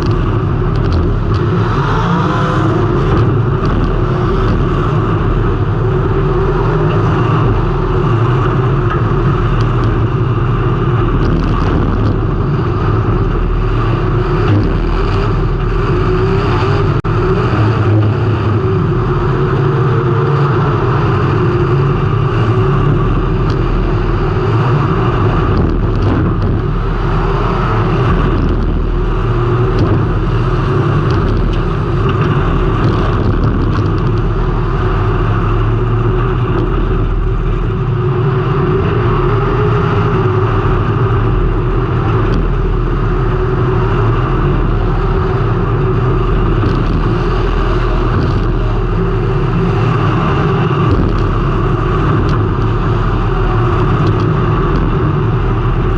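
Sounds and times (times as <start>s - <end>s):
race car engine revving: 0.0s - 55.9s
wind and road noise: 0.0s - 55.9s.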